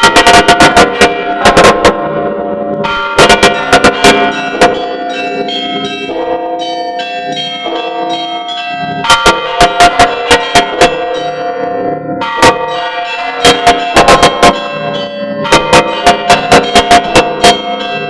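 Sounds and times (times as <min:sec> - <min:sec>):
church bells ringing: 0:00.0 - 0:18.0.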